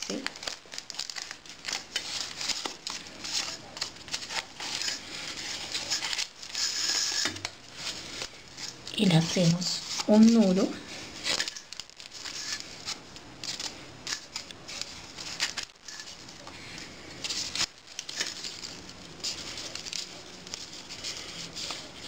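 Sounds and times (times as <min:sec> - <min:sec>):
leaves rustling and crackling: 0:00.0 - 0:22.0.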